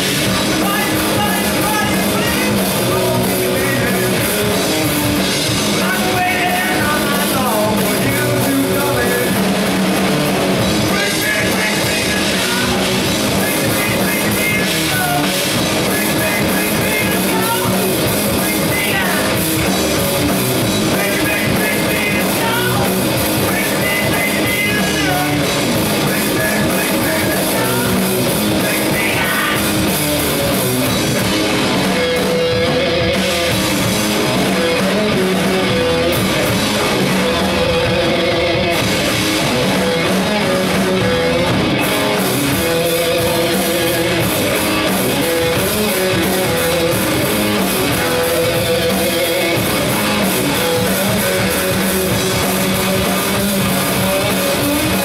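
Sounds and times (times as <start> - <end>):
distorted electric guitars: 0.0 - 55.0
drum kit: 0.0 - 55.0.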